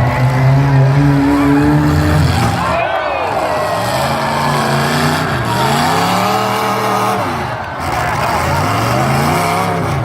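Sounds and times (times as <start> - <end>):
racing engines revving: 0.0 - 10.0.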